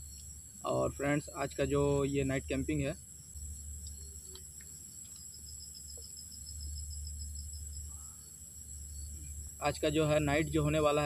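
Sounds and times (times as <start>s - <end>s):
crickets chirring: 0.0s - 11.0s
low steady hum: 0.0s - 11.0s
rapid pulsed insect trill: 0.0s - 11.0s.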